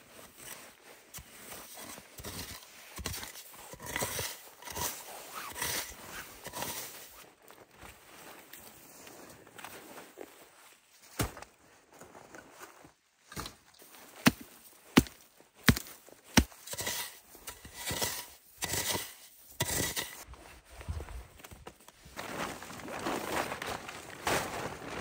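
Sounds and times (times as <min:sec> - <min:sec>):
brush and snow rustling: 0:00.0 - 0:25.0.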